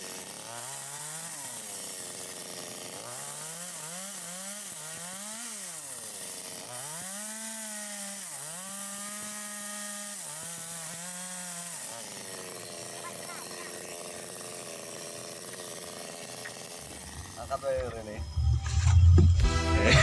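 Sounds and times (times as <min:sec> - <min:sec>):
chainsaw ripping wood: 0:00.0 - 0:20.0.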